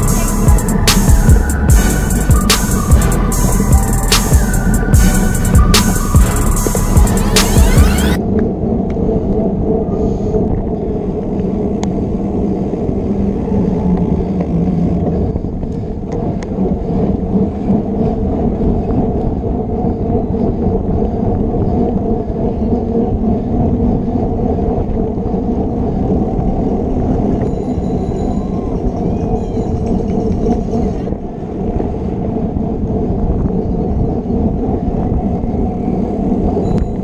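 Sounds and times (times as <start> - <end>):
bicycle tyre noise on pavement: 0.0 - 37.0
wind rumble: 0.0 - 37.0.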